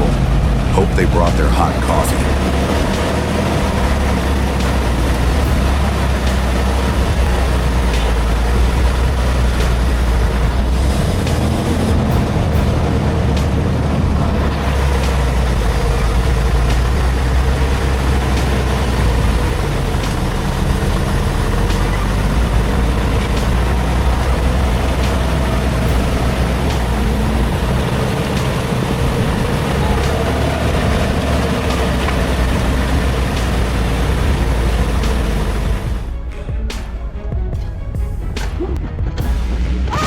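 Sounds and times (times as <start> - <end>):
truck engine rumbling: 0.0 - 40.0.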